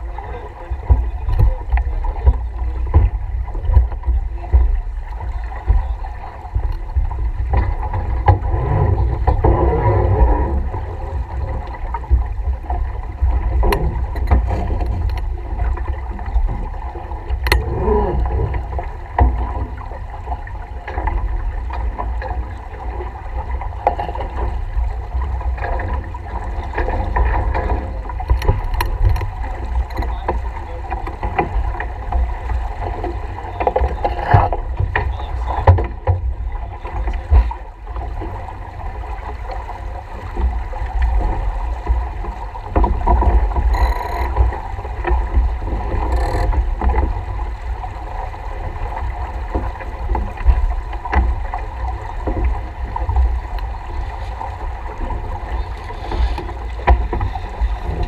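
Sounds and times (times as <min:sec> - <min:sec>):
water rushing along hull: 0:00.0 - 0:58.0
wind buffeting microphone: 0:00.0 - 0:58.0.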